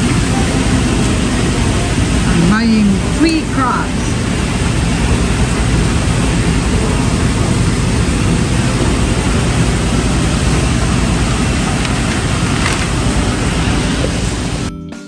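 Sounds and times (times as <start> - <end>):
supermarket background noise: 0.0 - 14.7.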